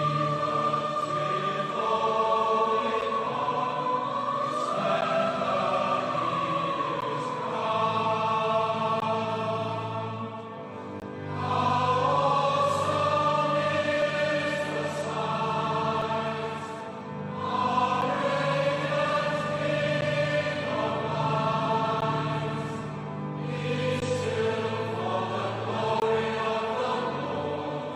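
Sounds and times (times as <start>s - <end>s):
choir singing sacred song: 0.0s - 27.9s.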